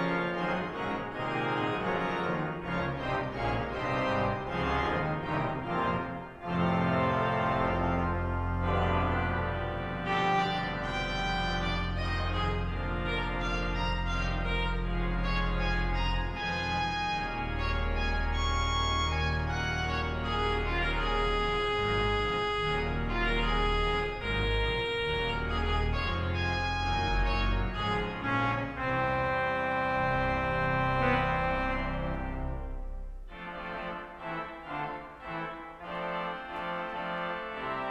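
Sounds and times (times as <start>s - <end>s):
pipe organ playing chords: 0.0s - 37.9s.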